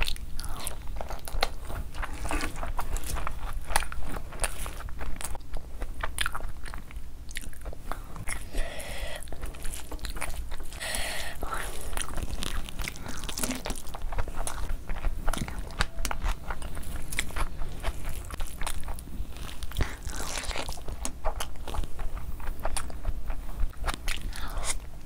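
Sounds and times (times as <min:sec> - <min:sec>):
close chewing with wet mouth clicks: 0:00.0 - 0:25.0.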